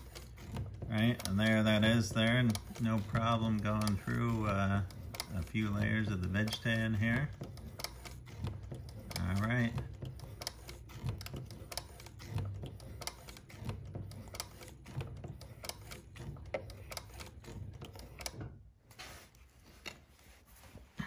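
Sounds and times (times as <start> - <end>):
sewing machine clattering: 0.0 - 18.6.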